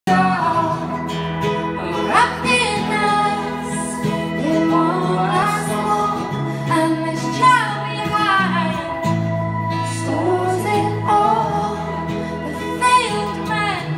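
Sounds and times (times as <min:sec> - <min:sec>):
electric guitar chords: 0:00.0 - 0:13.9
woman singing: 0:00.1 - 0:01.0, 0:01.7 - 0:13.9
second guitar: 0:00.1 - 0:13.9.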